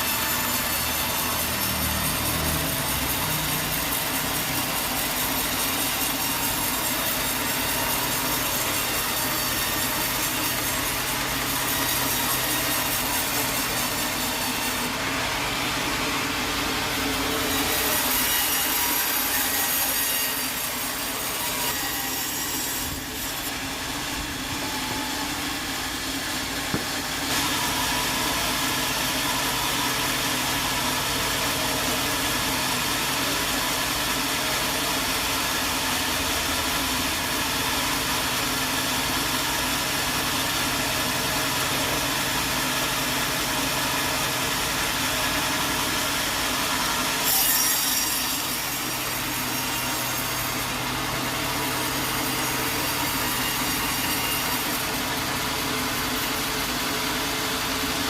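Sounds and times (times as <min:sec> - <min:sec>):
sawmill saw cutting wood: 0:00.0 - 0:58.0.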